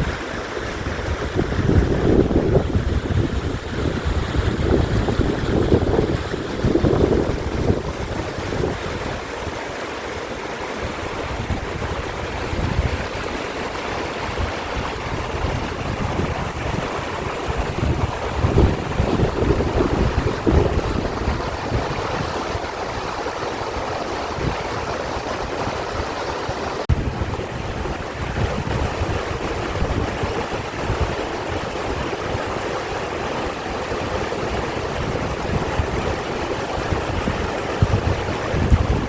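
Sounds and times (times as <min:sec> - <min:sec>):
stream rushing: 0:00.0 - 0:39.0
wind buffeting microphone: 0:00.0 - 0:39.0.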